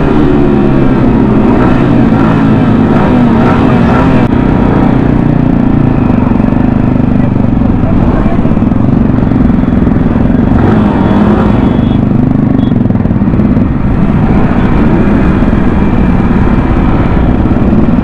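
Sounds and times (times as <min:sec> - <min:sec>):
motorcycle engine running: 0:00.0 - 0:18.0
motorcycles and scooters running: 0:00.0 - 0:18.0.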